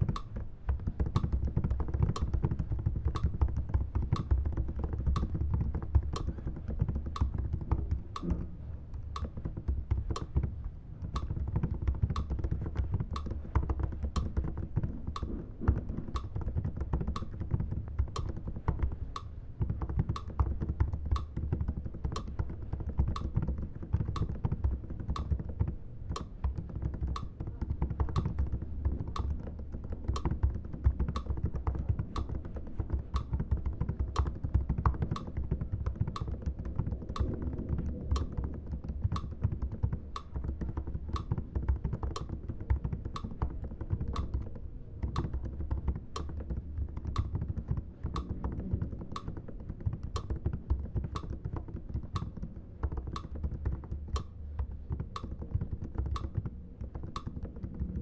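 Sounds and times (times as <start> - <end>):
computer keyboard typing: 11.1 - 58.0.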